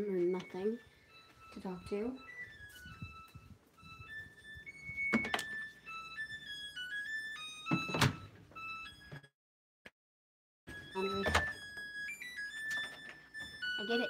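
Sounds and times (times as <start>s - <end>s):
simple high-note melody: 0.0s - 9.2s, 10.7s - 14.0s.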